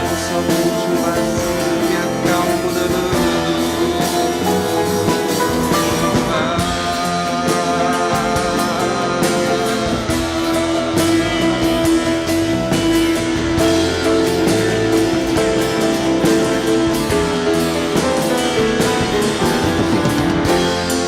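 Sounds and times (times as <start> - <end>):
guitars holding chords: 0.0 - 21.0
steady drum beat: 0.0 - 21.0.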